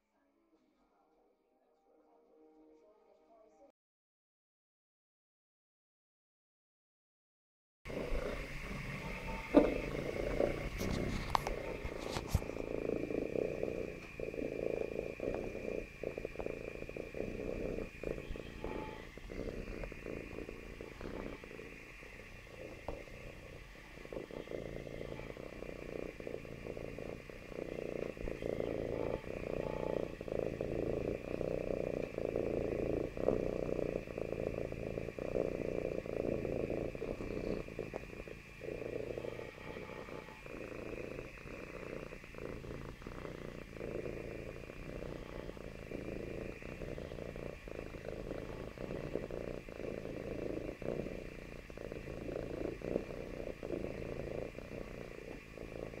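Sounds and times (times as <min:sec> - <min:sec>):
cat purring: 0:07.9 - 0:56.0.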